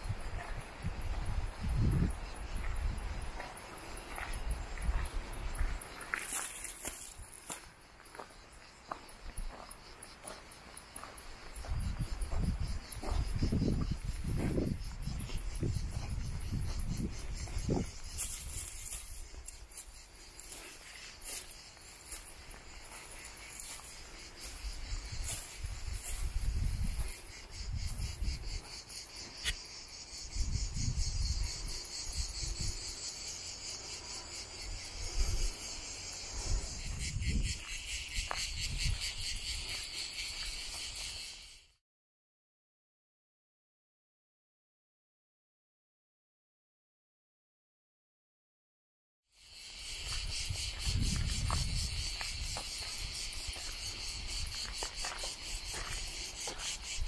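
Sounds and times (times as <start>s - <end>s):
insects chirring: 0.0s - 41.8s, 49.4s - 57.0s.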